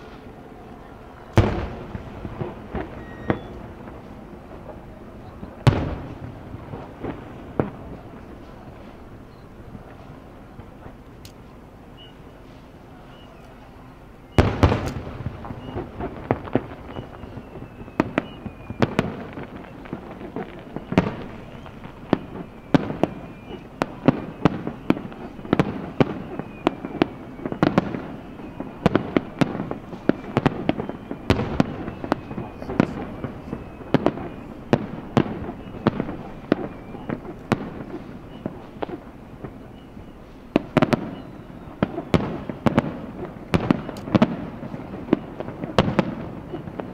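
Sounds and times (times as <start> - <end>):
fireworks bursts and booms: 0.0 - 46.9.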